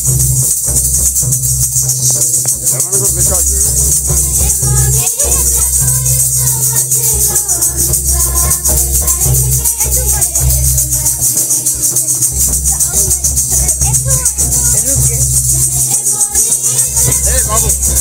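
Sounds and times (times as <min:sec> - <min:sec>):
shaker rattle: 0:00.0 - 0:18.0
person singing: 0:02.1 - 0:18.0.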